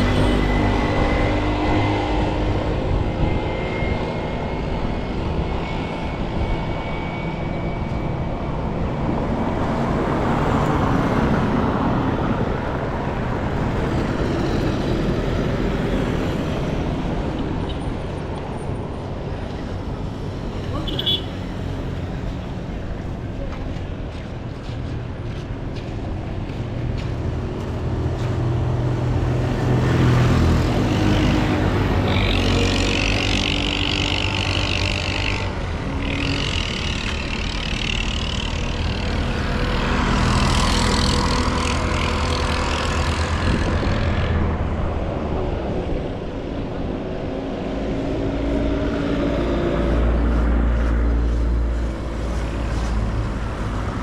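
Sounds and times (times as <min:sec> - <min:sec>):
vehicles passing close by: 0:00.0 - 0:54.0.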